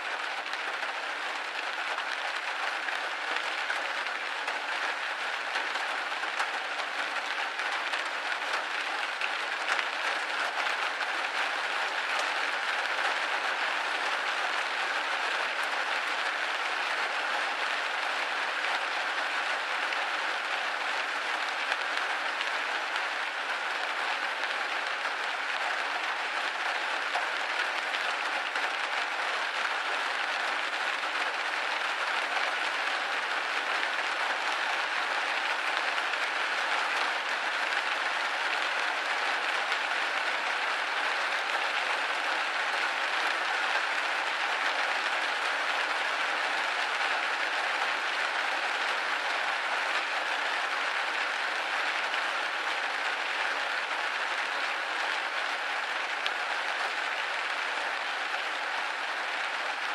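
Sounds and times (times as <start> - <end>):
rain on a windowpane: 0.0 - 59.9.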